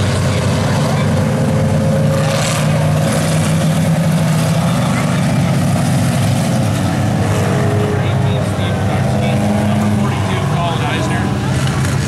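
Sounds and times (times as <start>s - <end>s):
stock car engines racing past: 0.0s - 12.0s.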